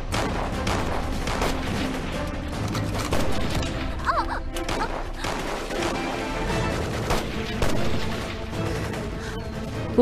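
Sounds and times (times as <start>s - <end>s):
gunfire shots: 0.0s - 3.9s, 4.6s - 9.0s
dramatic background music: 0.0s - 10.0s.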